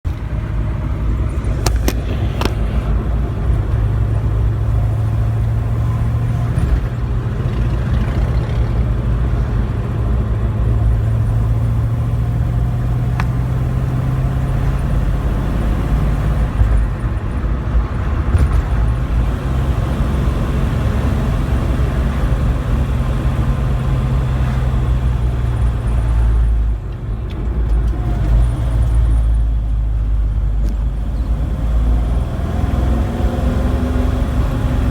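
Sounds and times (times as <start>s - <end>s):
road noise: 0.0s - 34.9s
car engine hum: 0.1s - 34.9s.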